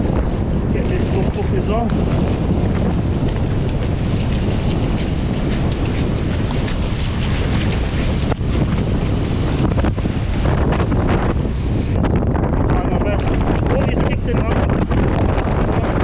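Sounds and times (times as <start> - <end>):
shallow sea water washing: 0.0 - 16.0
wind buffeting microphone: 0.0 - 16.0.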